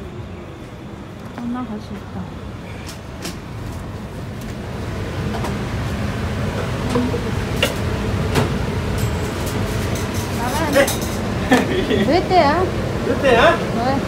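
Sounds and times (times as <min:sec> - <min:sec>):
extractor hood fan rumble: 0:00.0 - 0:14.0.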